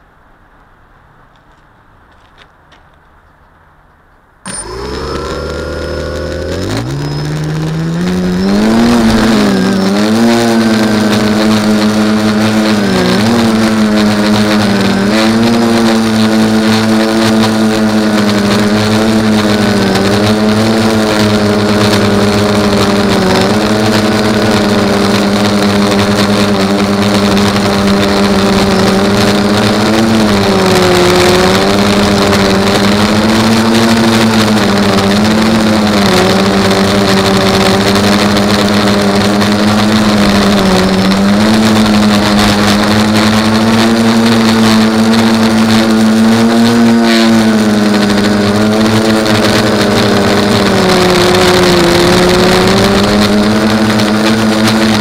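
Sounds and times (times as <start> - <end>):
drone propellers buzzing whine: 4.5 - 55.0.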